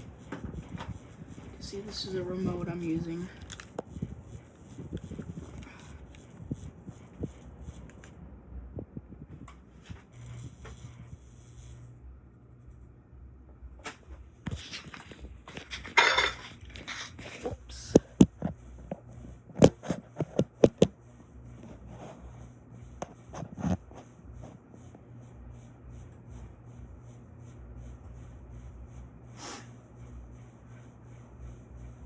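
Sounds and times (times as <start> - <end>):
ceiling fan motor hum: 0.0 - 32.0.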